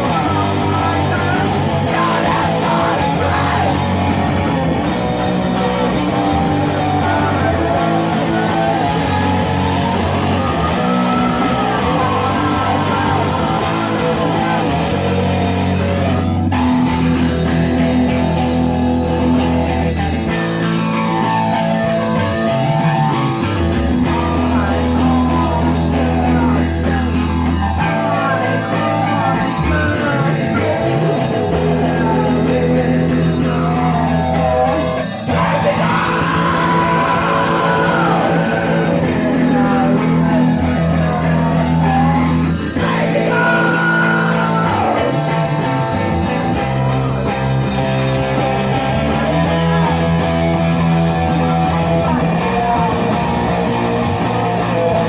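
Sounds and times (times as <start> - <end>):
person singing: 0.0 - 17.3, 19.2 - 55.0
bass guitar: 0.0 - 55.0
distorted electric guitar: 0.0 - 55.0.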